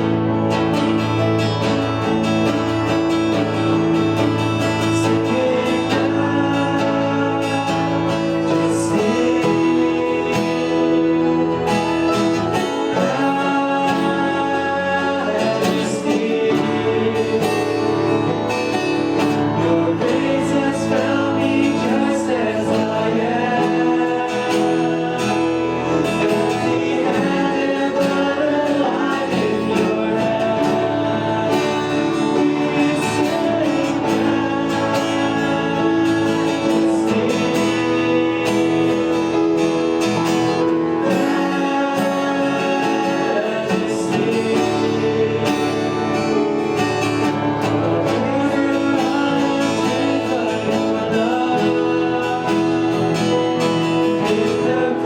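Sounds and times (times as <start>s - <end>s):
acoustic guitar: 0.0s - 55.0s
person singing: 0.0s - 55.0s.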